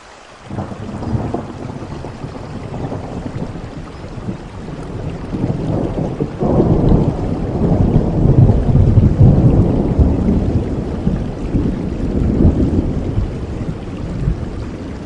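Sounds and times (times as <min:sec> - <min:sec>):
steady rain: 0:00.0 - 0:15.0
low roll of thunder: 0:00.5 - 0:15.0.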